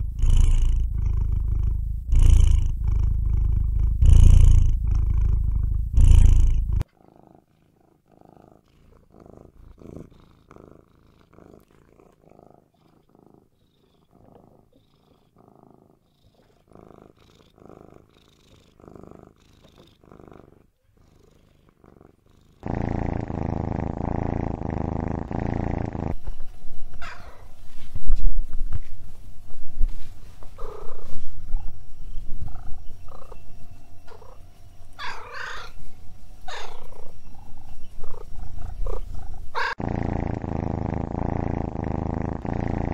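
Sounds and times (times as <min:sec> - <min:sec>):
cat purring: 0:00.0 - 0:42.9.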